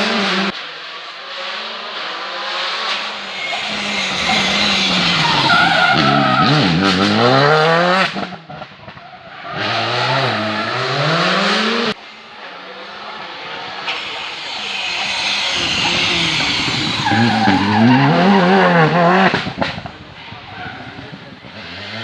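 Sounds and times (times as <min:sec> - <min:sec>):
rally car engine revving: 0:00.0 - 0:22.0
tyres squealing: 0:01.6 - 0:07.4, 0:09.1 - 0:22.0.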